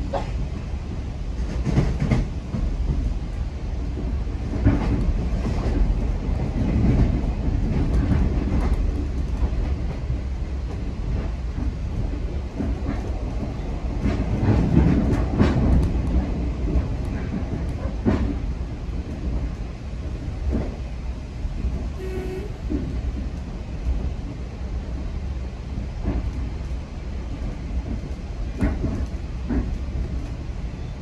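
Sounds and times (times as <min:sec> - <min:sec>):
rail joint clicks and knocks: 0:00.0 - 0:31.0
train wheels rumbling on track: 0:00.0 - 0:31.0.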